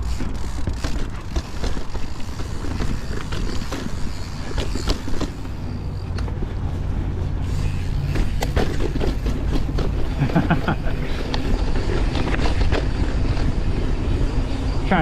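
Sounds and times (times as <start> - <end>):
bike clicks and rattles: 0.0 - 15.0
tyres rumbling on dirt trail: 0.0 - 15.0.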